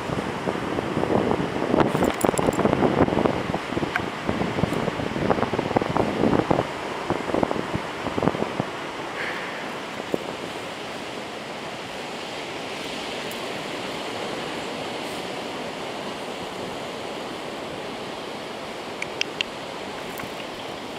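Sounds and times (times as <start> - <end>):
ocean surf washing on beach: 0.0 - 20.9.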